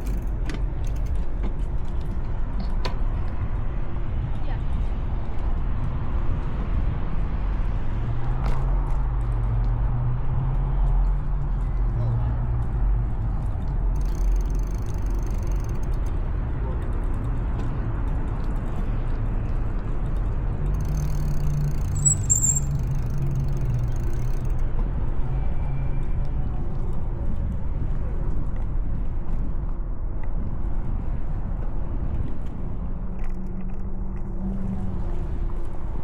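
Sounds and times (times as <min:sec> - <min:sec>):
street traffic noise: 0:00.0 - 0:36.0.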